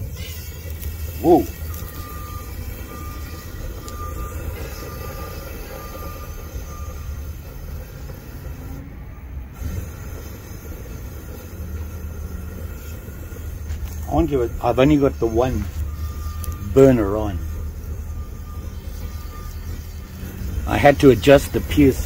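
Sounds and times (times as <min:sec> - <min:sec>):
propane forge burner rumbling: 0:00.0 - 0:22.0.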